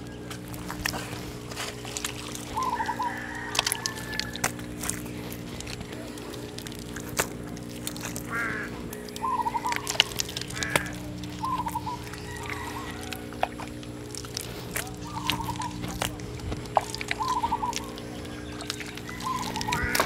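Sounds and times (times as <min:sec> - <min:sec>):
bird calls: 0:00.0 - 0:20.0
steady low hum: 0:00.0 - 0:20.0
wet clay knocks and clicks: 0:00.2 - 0:20.0.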